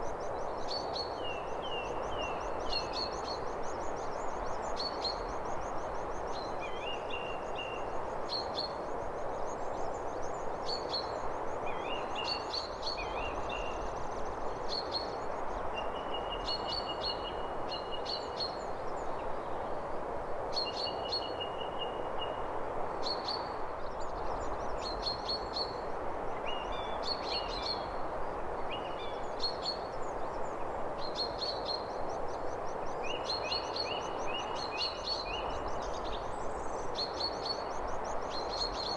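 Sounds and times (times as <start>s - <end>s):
background hiss: 0.0s - 38.9s
songbirds chirping: 0.0s - 38.9s.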